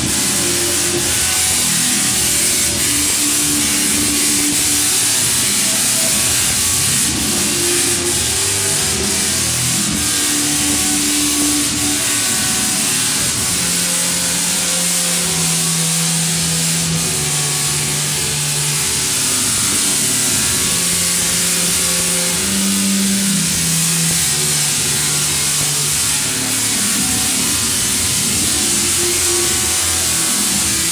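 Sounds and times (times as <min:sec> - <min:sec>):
tesla coil buzzing crackle: 0:00.0 - 0:30.9.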